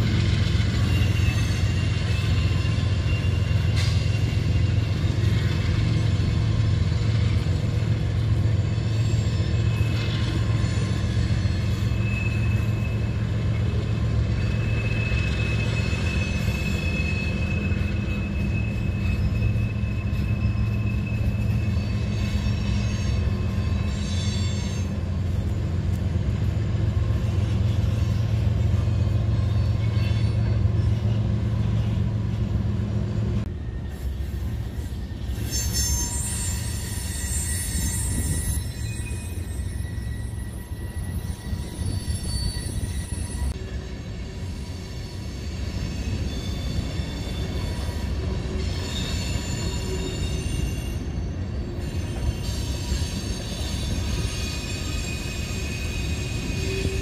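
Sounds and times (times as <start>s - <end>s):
freight train rumbling: 0.0s - 57.0s
high wheel squeal: 0.4s - 5.4s, 8.3s - 25.8s, 27.0s - 32.1s, 33.6s - 57.0s.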